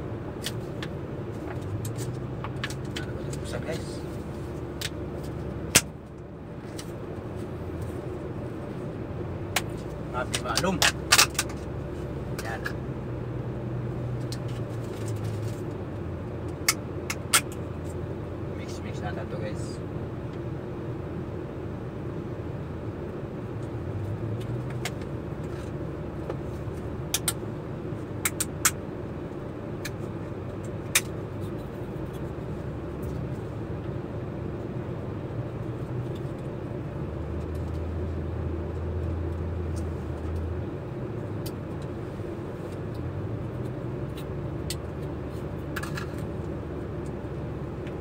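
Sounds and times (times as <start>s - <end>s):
idling vehicle engine drone: 0.0s - 48.0s.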